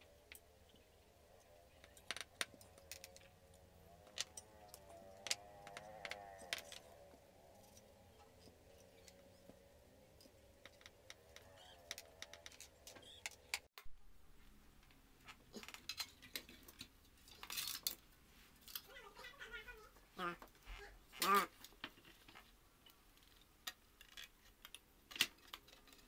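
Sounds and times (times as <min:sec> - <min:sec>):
clicks and rattles of parts: 0:01.3 - 0:13.7, 0:14.8 - 0:19.0, 0:21.2 - 0:26.0.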